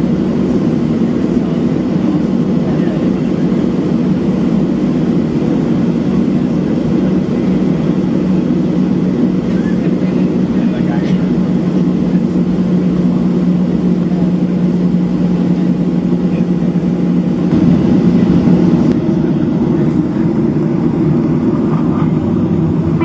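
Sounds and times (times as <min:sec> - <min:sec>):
jet engine hum in cabin: 0:00.0 - 0:23.0.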